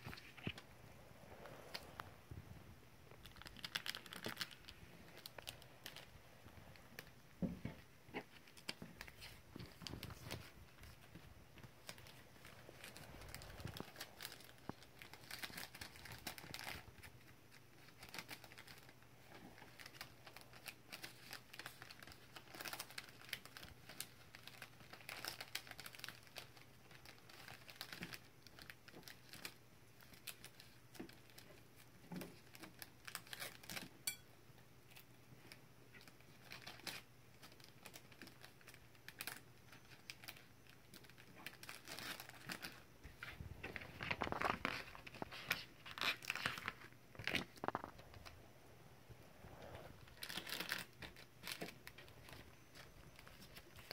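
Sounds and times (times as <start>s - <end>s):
plastic bags crinkling: 3.1s - 31.5s, 36.0s - 48.4s, 50.0s - 53.9s.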